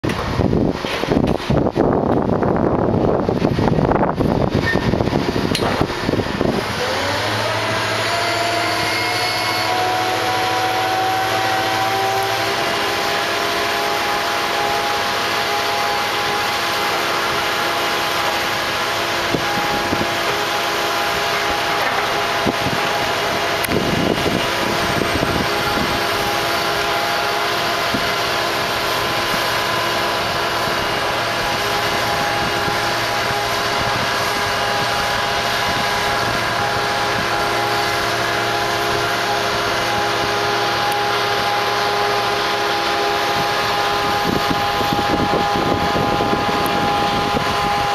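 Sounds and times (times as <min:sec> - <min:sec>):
crane motor whine: 0:00.0 - 0:47.9
low motor hum: 0:00.0 - 0:47.9.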